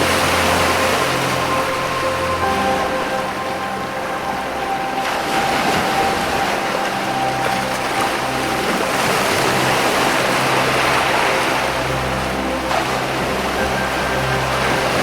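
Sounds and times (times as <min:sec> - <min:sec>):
waves washing against rocks: 0:00.0 - 0:15.0.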